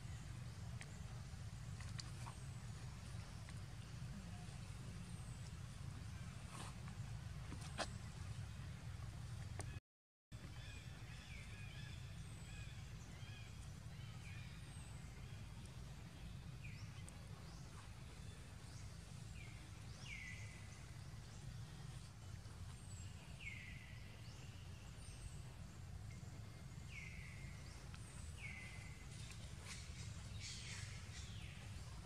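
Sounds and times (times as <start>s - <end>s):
low outdoor rumble: 0.0s - 9.8s, 10.4s - 32.0s.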